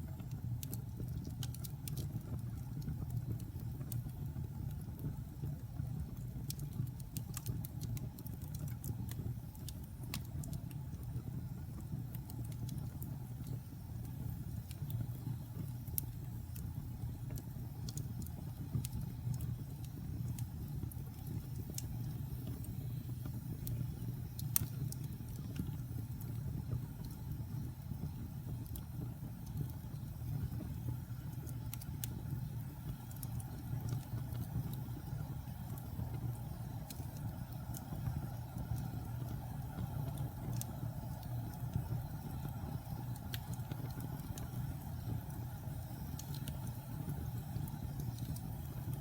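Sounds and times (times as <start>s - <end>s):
fire crackles and pops: 0.0s - 49.0s
low rumble of flame: 0.0s - 49.0s.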